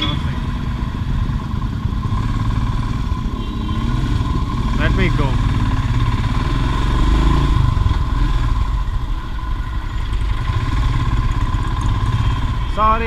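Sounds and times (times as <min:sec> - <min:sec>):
motorcycle engine pulling away: 0:00.8 - 0:12.6.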